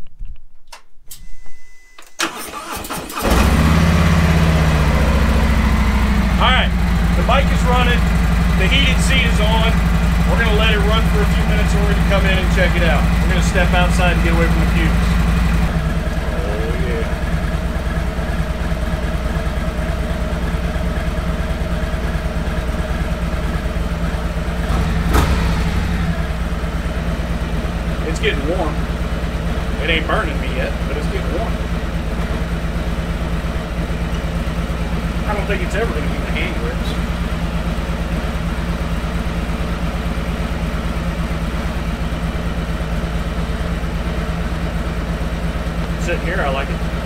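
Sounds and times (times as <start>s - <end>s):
motorcycle engine idling: 3.2s - 47.0s.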